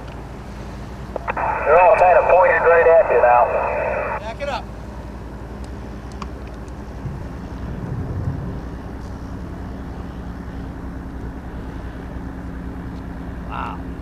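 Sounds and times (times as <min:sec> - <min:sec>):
boat engine low drone: 0:00.0 - 0:14.0.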